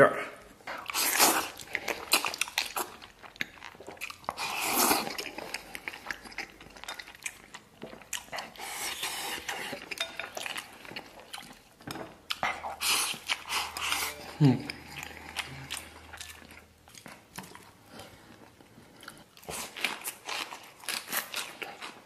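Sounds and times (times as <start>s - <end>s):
chewing: 0.6s - 22.0s.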